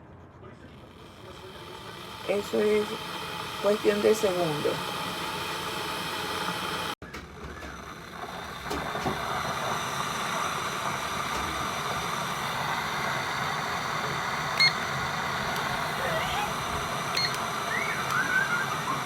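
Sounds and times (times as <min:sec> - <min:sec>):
kettle heating water: 0:00.8 - 0:19.0
kettle beep: 0:01.2 - 0:19.0.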